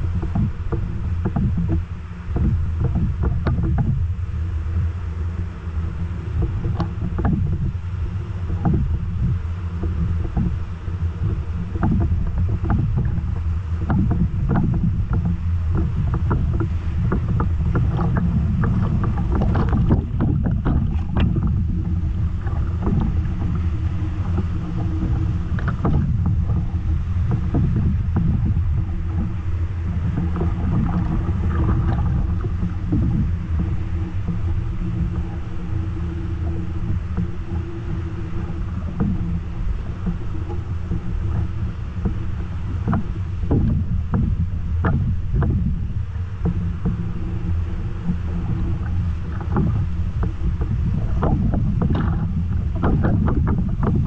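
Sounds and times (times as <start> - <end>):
water splashing on kayak: 0.0 - 54.0.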